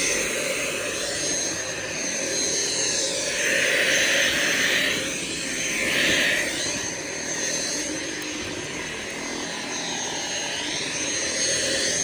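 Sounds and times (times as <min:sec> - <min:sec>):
vacuum motor whine: 0:00.0 - 0:12.0.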